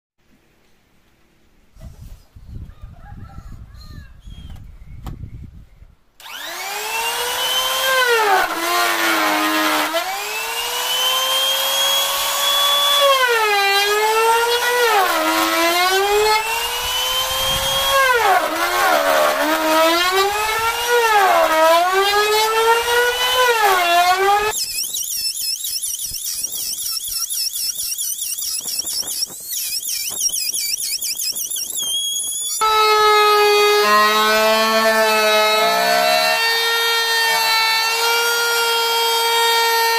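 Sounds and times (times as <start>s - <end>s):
router motor whine cutting wood: 6.2s - 39.9s.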